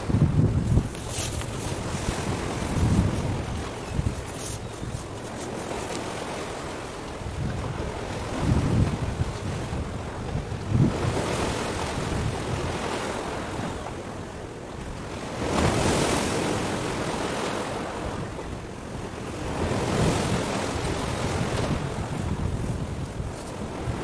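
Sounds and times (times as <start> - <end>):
sea waves washing in: 0.0 - 24.0
wind rumbling on microphone: 0.0 - 24.0.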